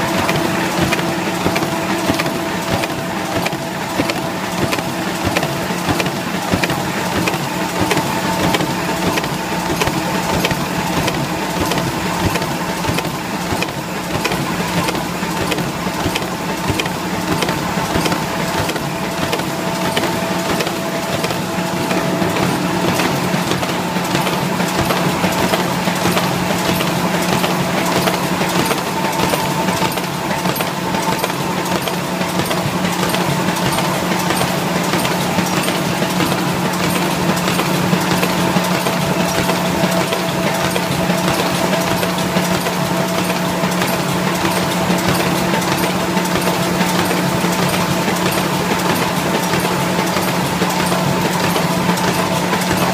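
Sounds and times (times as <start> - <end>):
gluing machine running: 0.0 - 52.9.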